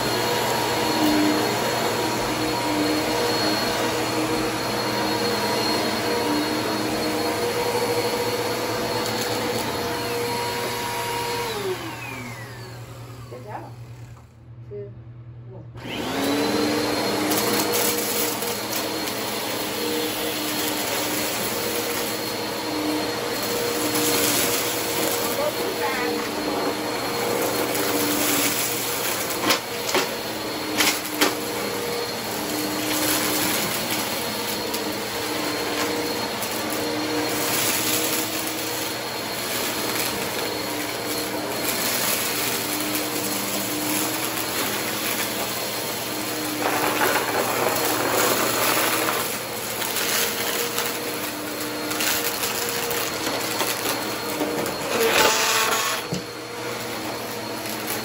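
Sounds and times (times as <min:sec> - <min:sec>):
vacuum cleaners running: 0:00.0 - 0:14.6, 0:15.7 - 0:58.0.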